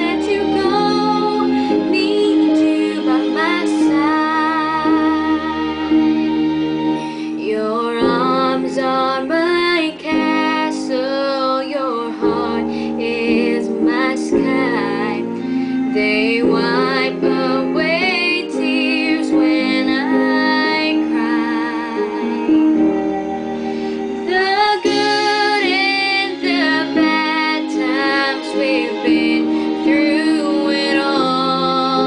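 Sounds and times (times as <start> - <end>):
woman singing pop song: 0.0 - 5.9, 7.2 - 22.6, 24.2 - 32.0
instrumental backing chords: 0.0 - 32.0.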